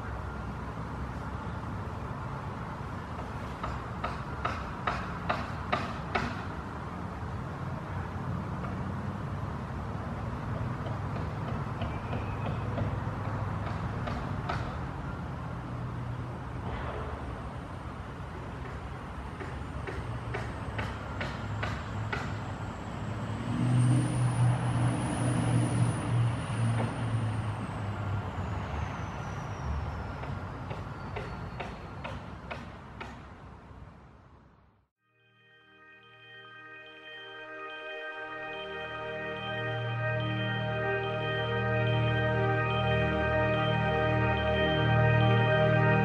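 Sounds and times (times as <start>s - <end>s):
distant traffic rumble: 0.0s - 34.8s, 37.2s - 46.0s
road vehicle engine hum: 0.0s - 34.9s, 37.1s - 46.0s.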